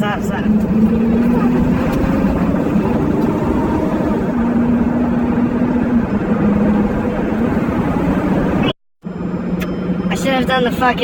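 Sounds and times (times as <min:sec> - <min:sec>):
car engine drone: 0:00.0 - 0:11.0
road noise: 0:00.0 - 0:11.0.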